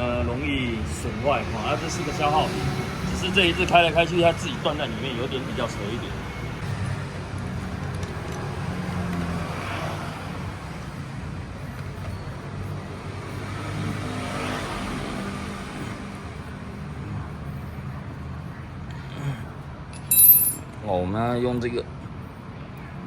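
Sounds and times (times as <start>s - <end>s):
road traffic rumble: 0.0s - 20.9s
vehicles passing: 0.0s - 21.1s.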